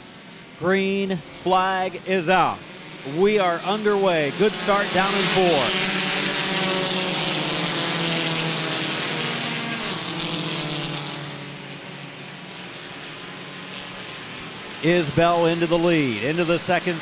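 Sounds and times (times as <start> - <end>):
race car engines roaring: 0.0 - 17.0.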